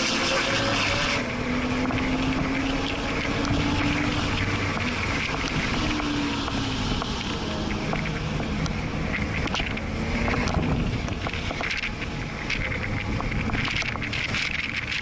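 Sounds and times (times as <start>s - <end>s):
car engine revving: 0.0s - 15.0s
wind and road noise: 0.0s - 15.0s.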